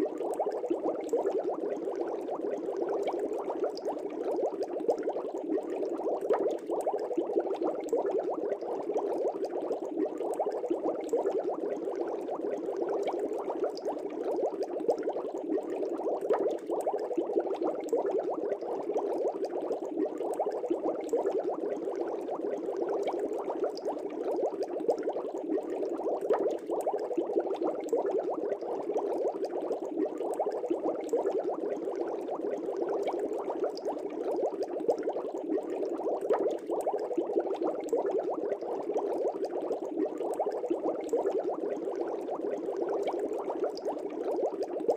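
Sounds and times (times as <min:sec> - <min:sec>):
aquarium air bubbles: 0:00.0 - 0:44.9.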